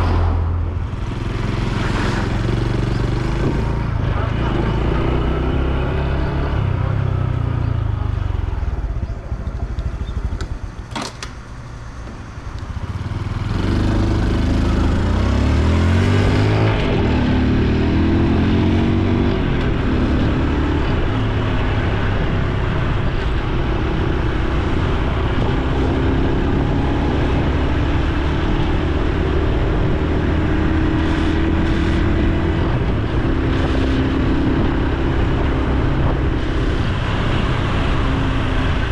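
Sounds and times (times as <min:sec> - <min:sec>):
motorbike engine and exhaust: 0:00.0 - 0:38.9.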